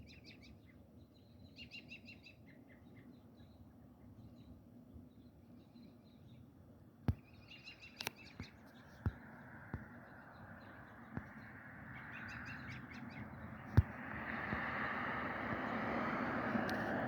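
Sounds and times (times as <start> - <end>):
small birds twittering: 0.0 - 6.5, 7.1 - 14.7.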